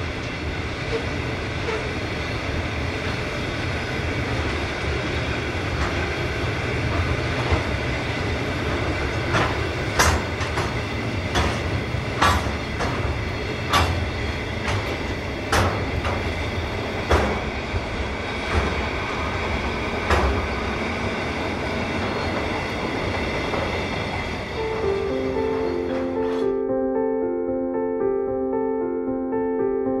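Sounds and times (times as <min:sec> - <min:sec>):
wagon wheels rumbling on rail: 0:00.0 - 0:26.5.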